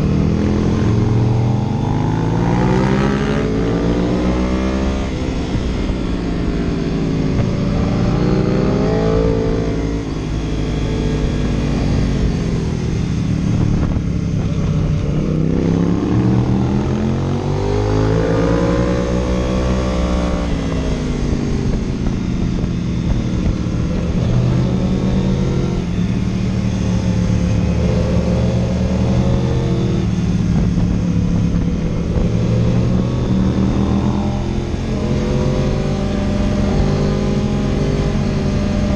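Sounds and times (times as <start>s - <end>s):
road and wind noise: 0.0s - 38.9s
vehicle engine revving: 0.0s - 38.9s.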